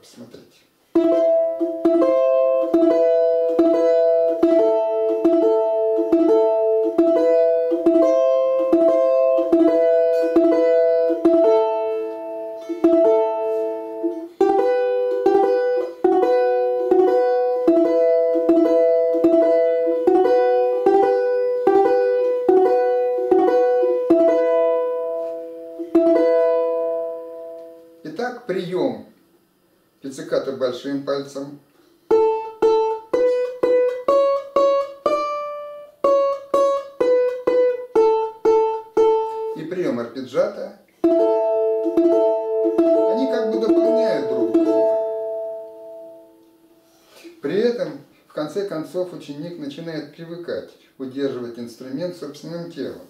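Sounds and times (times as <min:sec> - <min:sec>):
balalaika plucked melody: 0:00.8 - 0:28.2, 0:31.8 - 0:40.1, 0:40.9 - 0:48.2.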